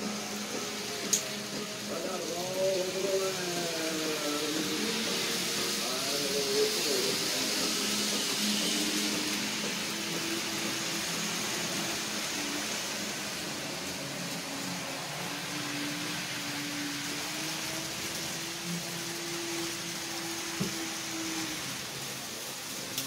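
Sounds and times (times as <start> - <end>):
model train motors whirring: 0.0 - 23.0
wheels rolling on track: 0.0 - 23.0.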